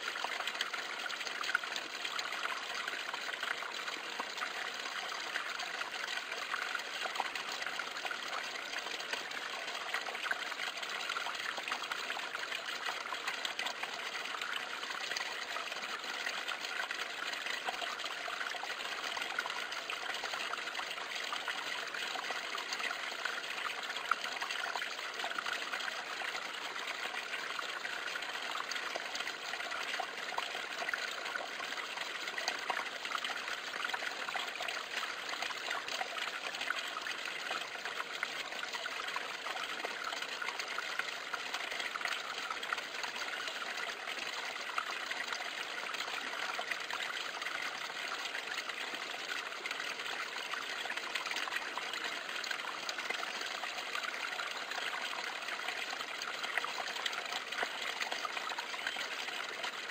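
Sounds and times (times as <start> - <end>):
water trickling into a pool: 0.0 - 59.9.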